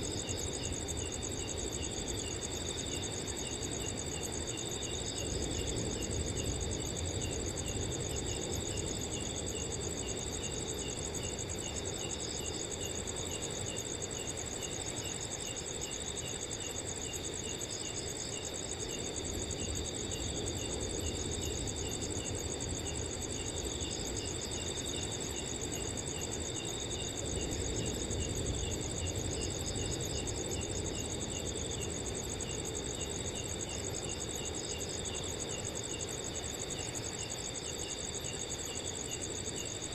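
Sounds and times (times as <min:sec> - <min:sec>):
cricket chirping evenly: 0:00.0 - 0:39.9
cricket high continuous trill: 0:00.0 - 0:39.9.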